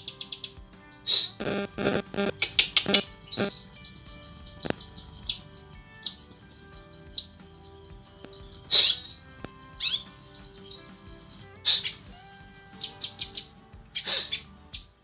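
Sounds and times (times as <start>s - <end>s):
bird sharp sweeping calls: 0.0s - 15.0s
songbird high chips: 0.0s - 15.0s.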